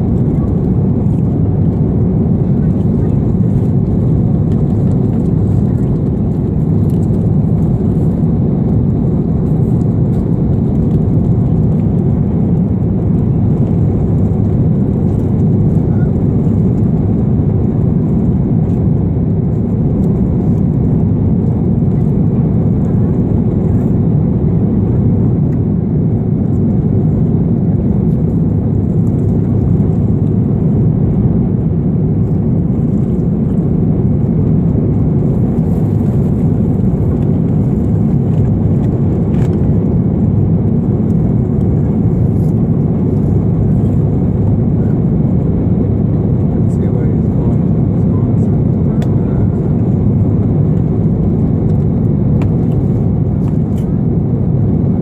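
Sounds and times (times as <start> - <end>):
airliner cabin roar: 0.0 - 55.0.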